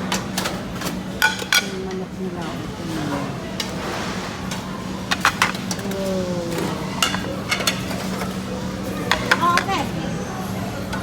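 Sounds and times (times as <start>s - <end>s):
restaurant background noise: 0.0s - 11.0s
utensils and dishes clinking: 0.0s - 11.0s.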